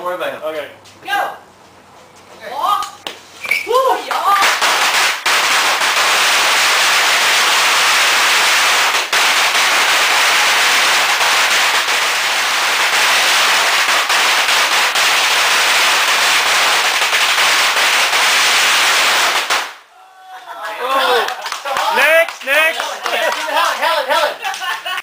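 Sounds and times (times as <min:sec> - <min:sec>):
firecrackers crackling: 0:02.8 - 0:19.9, 0:21.1 - 0:25.0.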